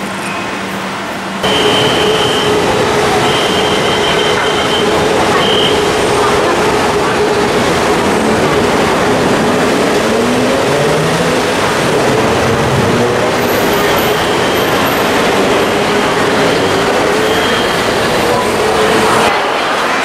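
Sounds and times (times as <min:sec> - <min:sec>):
city traffic: 0:00.0 - 0:20.0.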